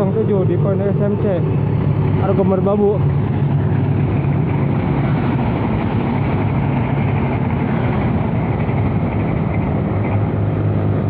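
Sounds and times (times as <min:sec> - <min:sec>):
passenger train running past: 0:00.0 - 0:11.0.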